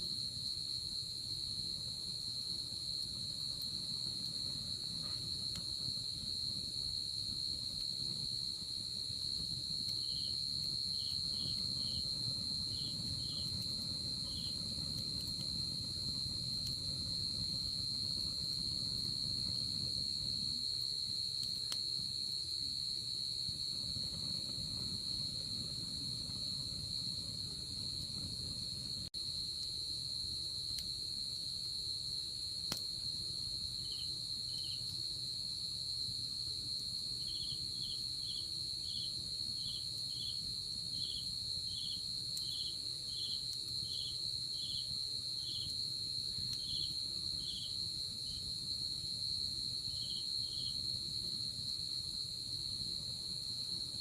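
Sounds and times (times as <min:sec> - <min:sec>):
insect chirping lower: 0:00.0 - 0:54.0
insect high steady trill: 0:00.0 - 0:54.0.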